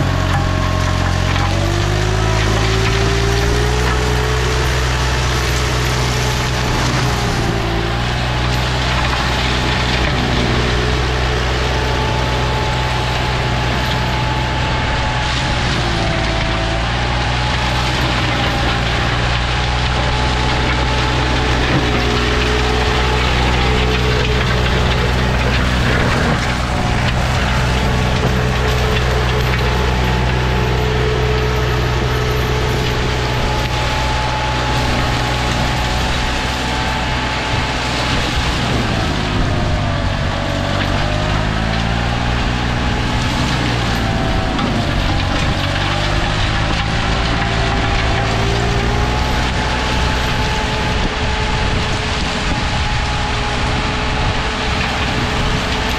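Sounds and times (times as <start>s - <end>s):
mower engine running: 0.0s - 55.9s
mulching head shredding brush: 0.0s - 55.9s.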